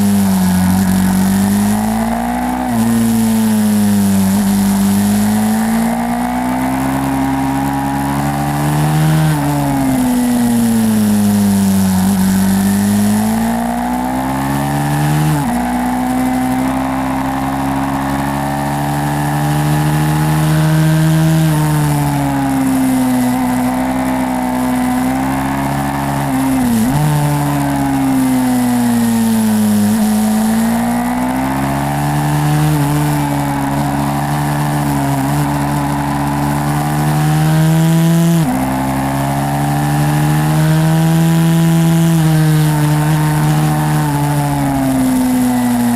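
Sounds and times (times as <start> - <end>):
small motorcycle engine revving: 0.0 - 45.9.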